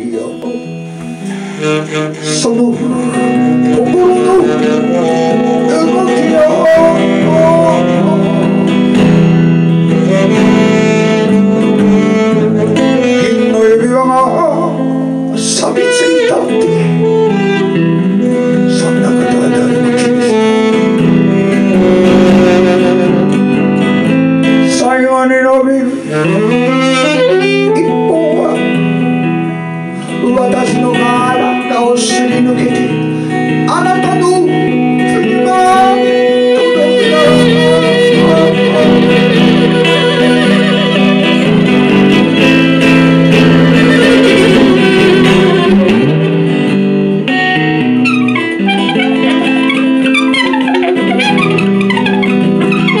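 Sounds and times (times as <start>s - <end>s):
alto saxophone long notes: 0.0s - 24.8s, 25.5s - 53.0s
electric guitar through amplifier: 0.0s - 53.0s.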